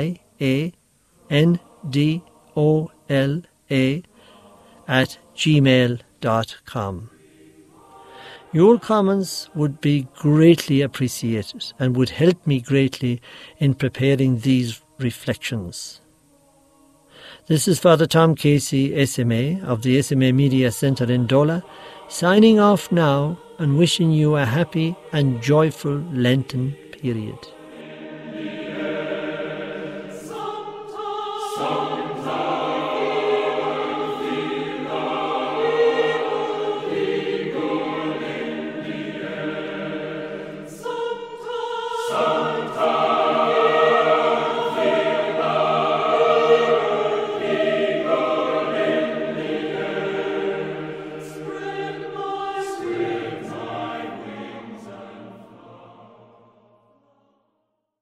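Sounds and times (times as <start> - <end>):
choir singing sacred music: 0.0 - 57.6.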